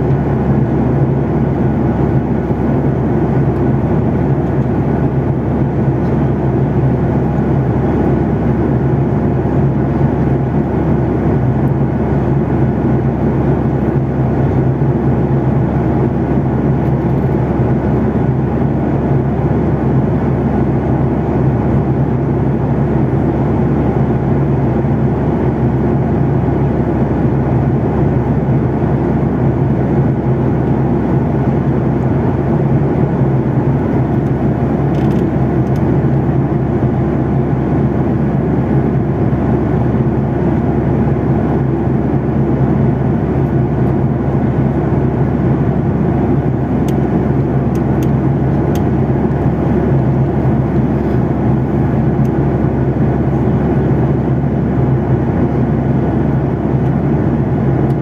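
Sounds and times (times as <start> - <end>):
jet airliner cabin noise: 0.0 - 58.0.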